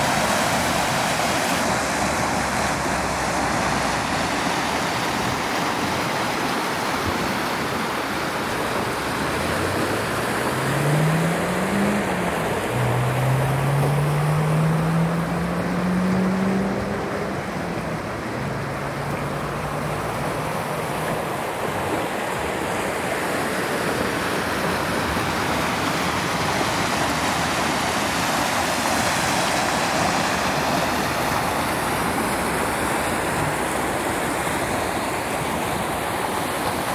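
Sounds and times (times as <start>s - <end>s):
river flowing over stones: 0.0s - 36.9s.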